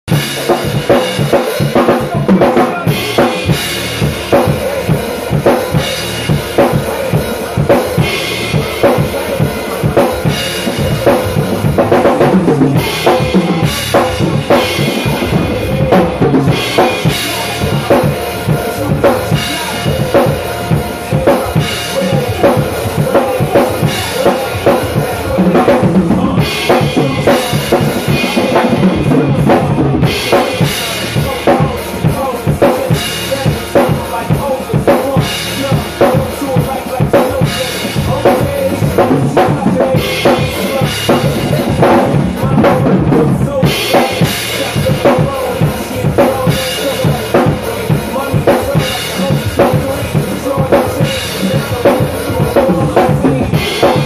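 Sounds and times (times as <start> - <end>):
drum kit groove: 0.0 - 54.0
recorded hip-hop track: 0.1 - 54.0.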